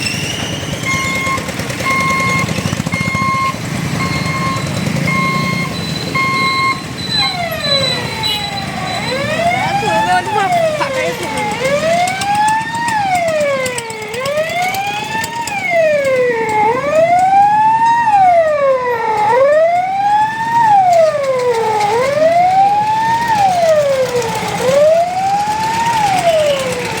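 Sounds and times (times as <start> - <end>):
siren wailing: 0.8 - 27.0.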